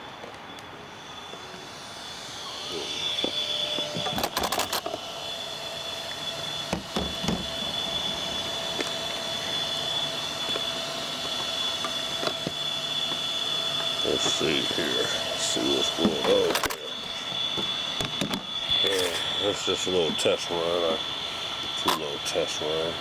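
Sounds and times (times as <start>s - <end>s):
high-pitched fan whine: 0.0s - 23.0s.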